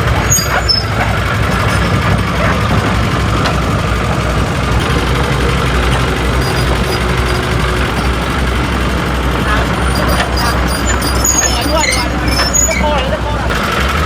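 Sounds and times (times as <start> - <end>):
heavy diesel engine rumbling: 0.0 - 14.0.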